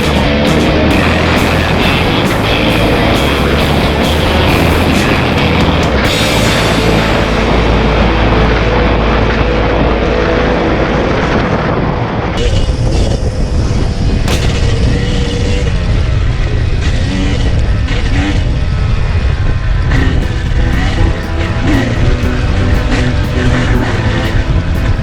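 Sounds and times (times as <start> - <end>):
two-stroke dirt bike engine: 0.0 - 9.8, 12.4 - 25.0.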